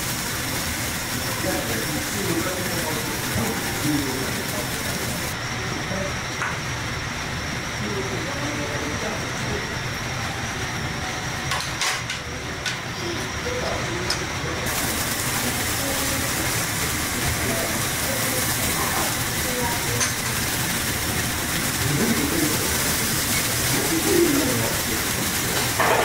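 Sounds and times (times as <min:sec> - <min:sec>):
meat sizzling on a grill: 0:00.0 - 0:05.9, 0:06.6 - 0:26.0.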